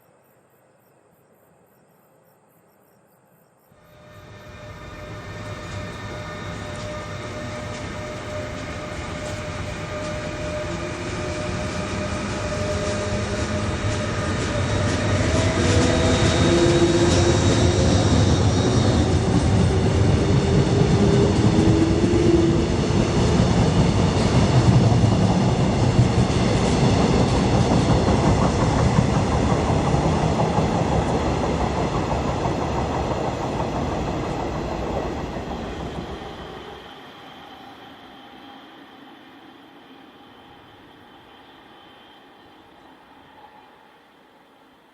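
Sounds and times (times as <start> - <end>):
train rumbling on rails: 3.8 - 44.9
steady whining tones: 3.9 - 44.9.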